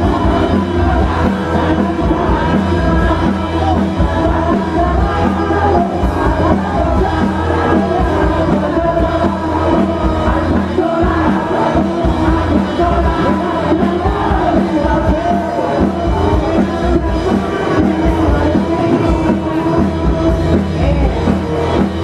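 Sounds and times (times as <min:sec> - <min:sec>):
crowd noise: 0:00.0 - 0:22.0
live rock band playing: 0:00.0 - 0:22.0
person singing: 0:00.0 - 0:22.0.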